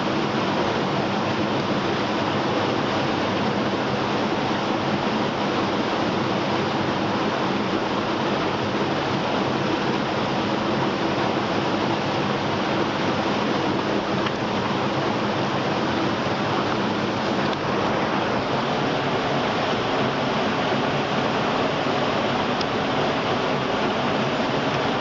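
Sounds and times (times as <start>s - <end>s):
creek rushing with waterfalls: 0.0s - 25.0s.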